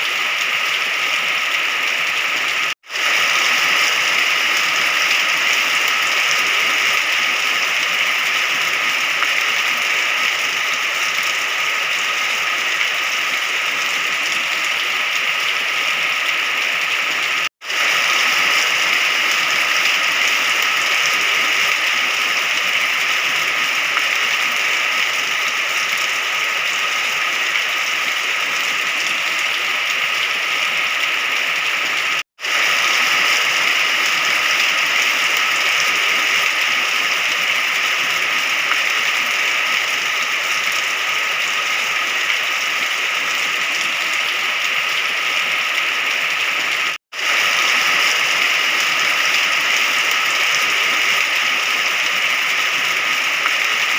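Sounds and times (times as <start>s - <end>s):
dense rain falling: 0.0s - 53.9s.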